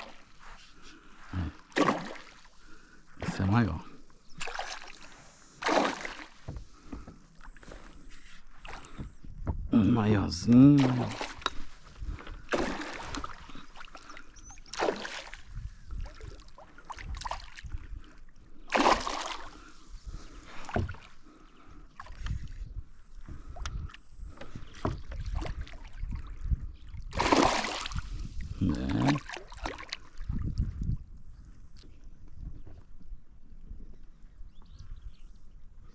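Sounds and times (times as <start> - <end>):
water splashing around boat: 0.0 - 9.7, 10.4 - 22.6, 23.2 - 30.8.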